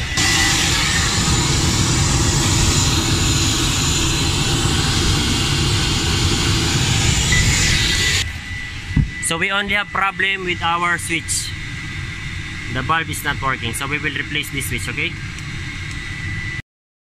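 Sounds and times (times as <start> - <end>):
jet turbine roar with high whine: 0.0 - 16.6.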